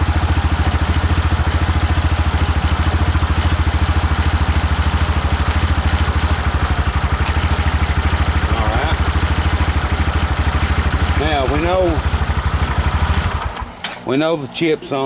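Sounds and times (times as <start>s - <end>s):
atv engine idling: 0.0s - 13.8s.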